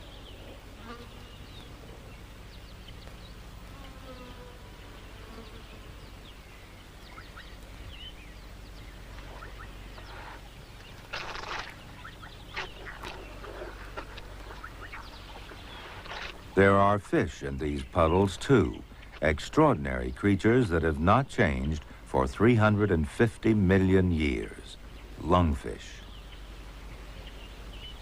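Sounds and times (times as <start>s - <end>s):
flies buzzing: 0.0s - 22.8s
low hum: 0.0s - 28.0s
small birds chirping: 0.0s - 28.0s.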